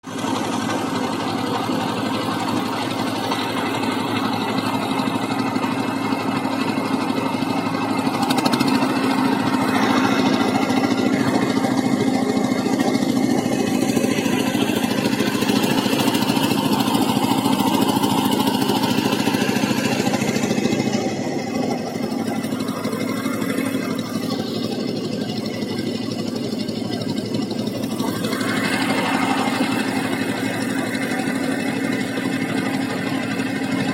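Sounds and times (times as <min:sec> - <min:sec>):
boat engine running: 0:00.0 - 0:33.9.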